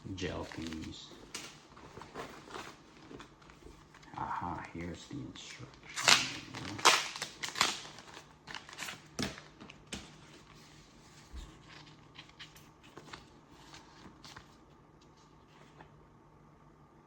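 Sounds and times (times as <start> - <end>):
packaging and paper rustling: 0.0 - 16.0.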